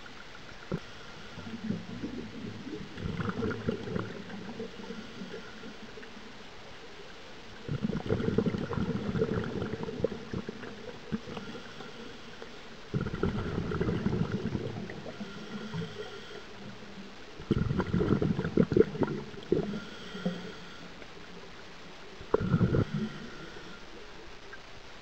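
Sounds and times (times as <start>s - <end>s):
regulator exhaust bubbles: 0.0s - 6.0s, 7.6s - 21.6s, 22.2s - 24.3s
diver inhaling: 0.7s - 5.9s, 7.7s - 21.0s, 22.3s - 24.0s.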